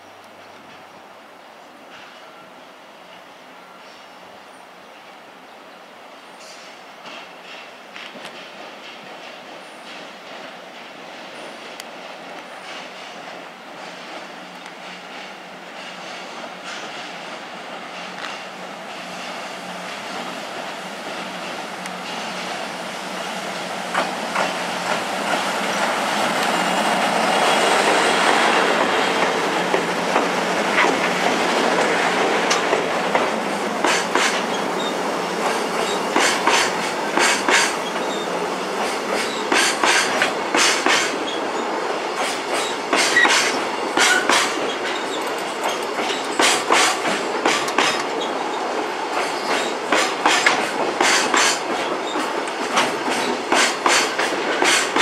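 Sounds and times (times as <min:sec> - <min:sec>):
train wheels rumbling on rail: 0:06.3 - 0:55.0
clickety-clack over rail joints: 0:07.0 - 0:22.6, 0:23.9 - 0:26.8, 0:27.4 - 0:38.2, 0:38.8 - 0:41.4, 0:42.1 - 0:55.0.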